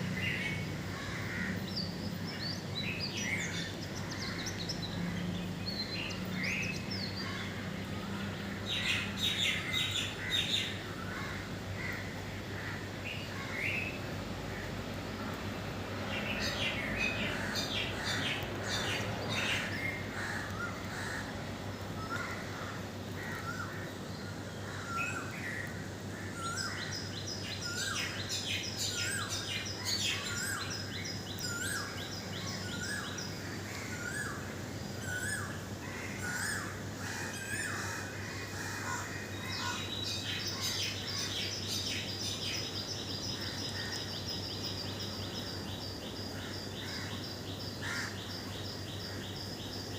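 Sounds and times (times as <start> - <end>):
birds singing and chirping: 0.0 - 12.0, 16.0 - 49.9.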